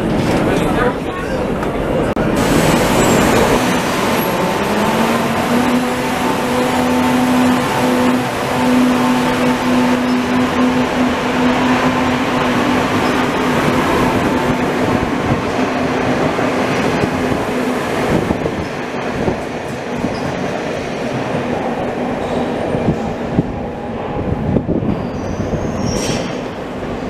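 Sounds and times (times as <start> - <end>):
train hum: 0.0 - 27.0
train wheels rumbling on rails: 0.0 - 27.0.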